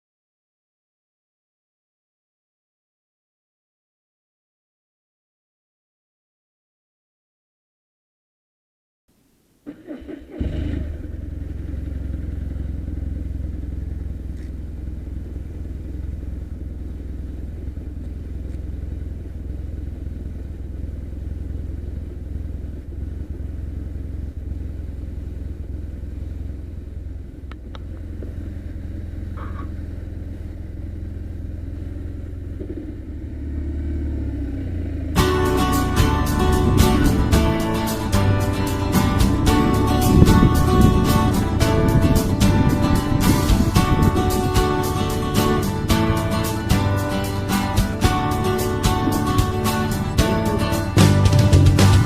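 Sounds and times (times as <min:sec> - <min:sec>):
motorcycle engine running: 0:09.7 - 0:52.0.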